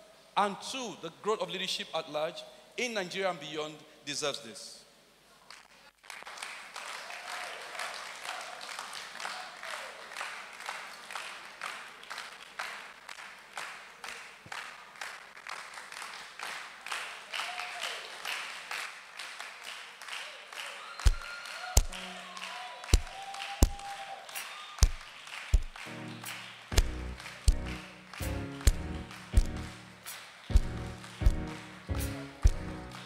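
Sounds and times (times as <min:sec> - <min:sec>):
audience clapping in rhythm: 0:05.5 - 0:33.0.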